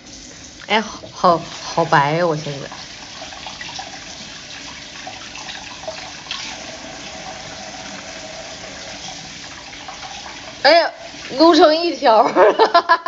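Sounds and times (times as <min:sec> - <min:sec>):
tap water running into basin: 0:00.0 - 0:13.0.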